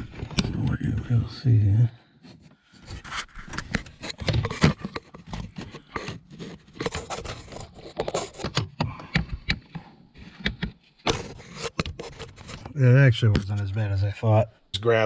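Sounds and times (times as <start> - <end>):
clicks knocks and scraping: 0.0 - 1.2, 2.2 - 13.9.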